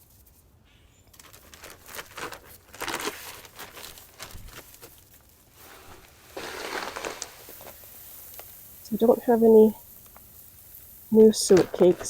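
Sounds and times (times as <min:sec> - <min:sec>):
plastic bag crinkling: 0:01.1 - 0:12.0.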